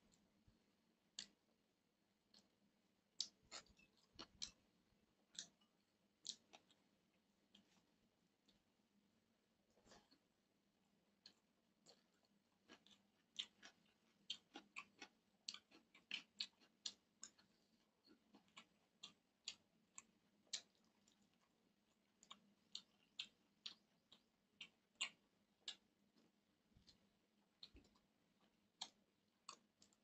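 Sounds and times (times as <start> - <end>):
wet chewing and lip-smacking: 3.1 - 8.6, 11.2 - 30.0.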